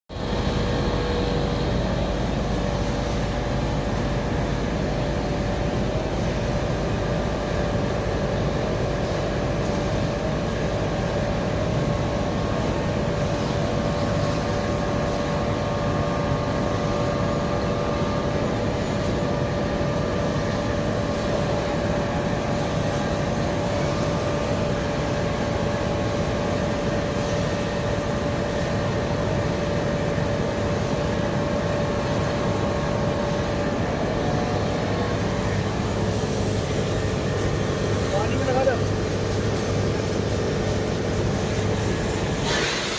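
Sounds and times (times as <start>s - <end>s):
generator engine running: 0.1s - 42.4s.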